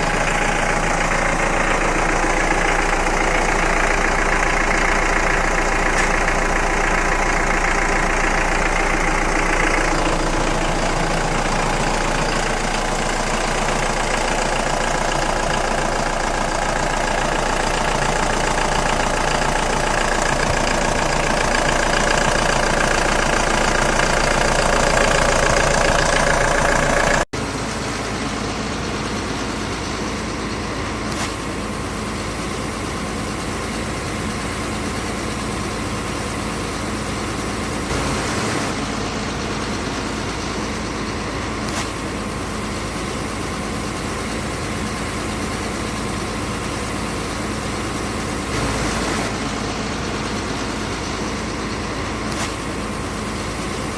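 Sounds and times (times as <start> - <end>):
vehicle engine idling: 0.0 - 53.9.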